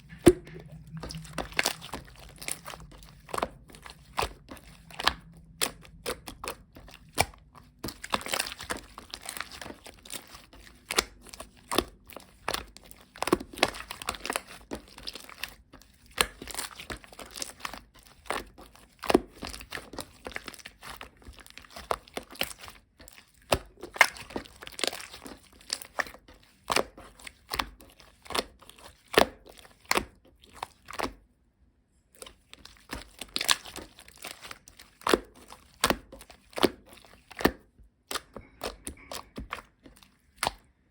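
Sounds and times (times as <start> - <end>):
slime squished by hand: 0.0 - 31.2, 32.2 - 40.8.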